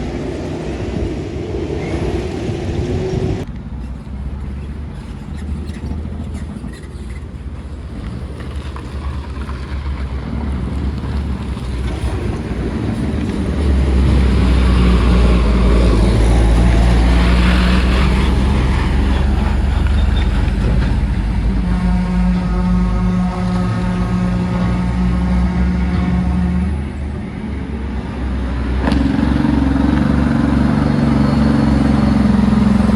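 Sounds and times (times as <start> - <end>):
heavy truck engine labouring: 0.0 - 32.9.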